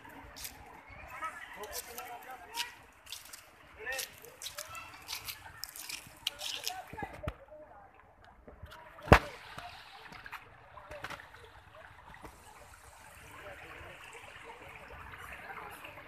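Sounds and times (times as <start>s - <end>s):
stream trickling over rocks: 0.0s - 16.0s.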